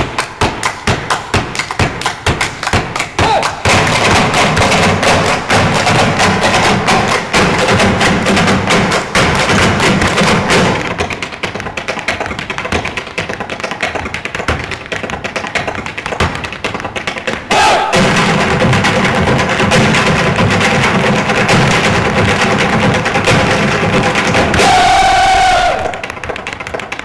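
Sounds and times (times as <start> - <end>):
hard shoe dance taps on stage: 0.0 - 27.0.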